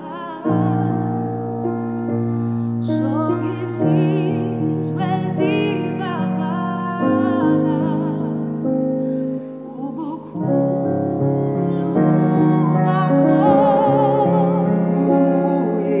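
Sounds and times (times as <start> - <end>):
woman singing gospel song: 0.0 - 1.1, 2.8 - 8.4, 9.6 - 16.0
held piano chords: 0.0 - 16.0.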